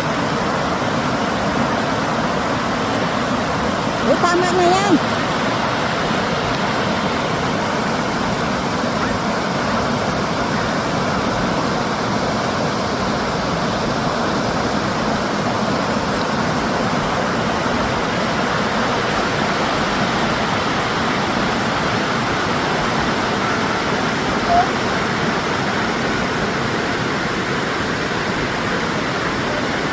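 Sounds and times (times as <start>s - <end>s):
river water rushing over rapids: 0.0s - 29.9s.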